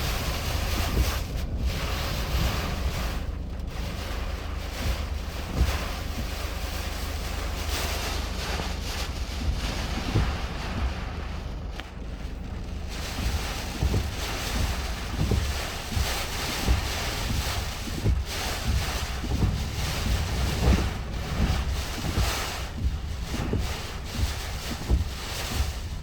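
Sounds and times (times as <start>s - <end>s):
wind buffeting microphone: 0.0s - 26.0s
wind gusting hard: 0.0s - 26.0s.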